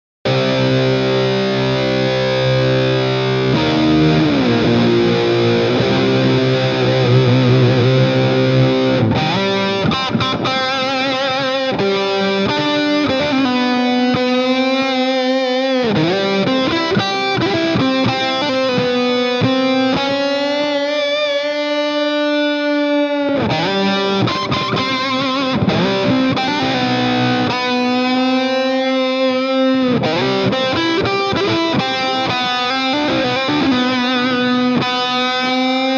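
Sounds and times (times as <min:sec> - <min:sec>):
distorted electric guitar rock: 0:00.2 - 0:35.9.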